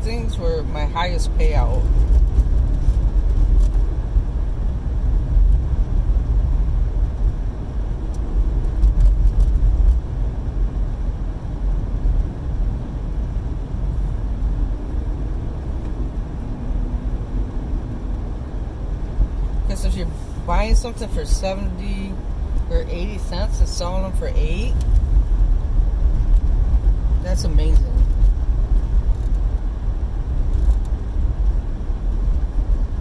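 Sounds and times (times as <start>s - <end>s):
car driving heard from inside: 0.0s - 33.0s.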